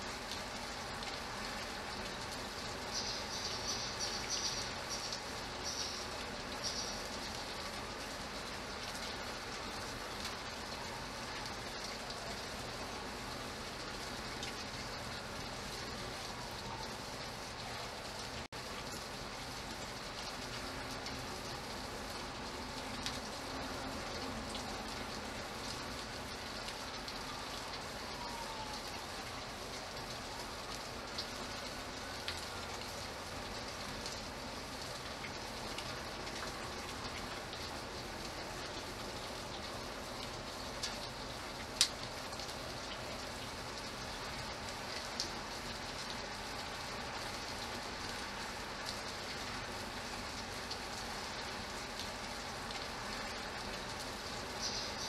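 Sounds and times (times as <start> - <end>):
steady rain hiss: 0.0 - 55.0
water dripping off roof: 0.0 - 55.0.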